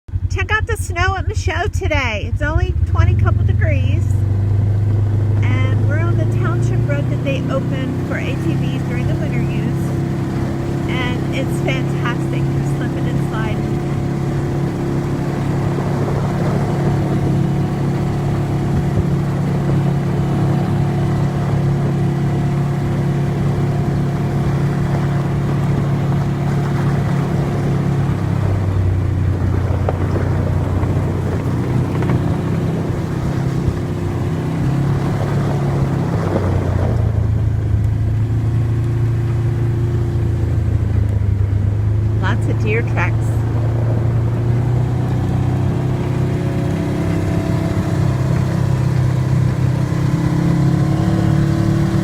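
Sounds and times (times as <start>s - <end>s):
atv engine droning: 0.1s - 52.0s.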